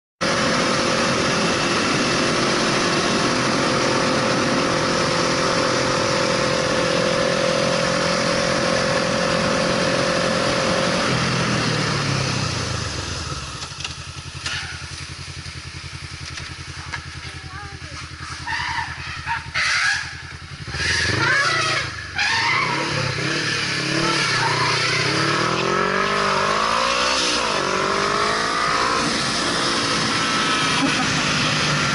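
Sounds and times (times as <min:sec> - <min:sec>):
vehicle engine and road noise: 0:00.2 - 0:31.9.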